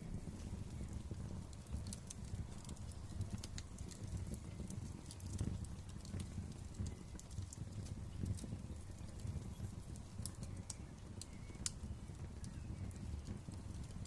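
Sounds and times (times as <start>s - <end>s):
fire pops and snaps: 0.0s - 14.0s
low rumble of flames: 0.0s - 14.0s.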